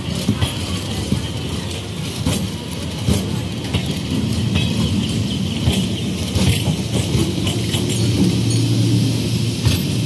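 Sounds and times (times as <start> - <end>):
train coaches rumbling past: 0.0 - 10.0.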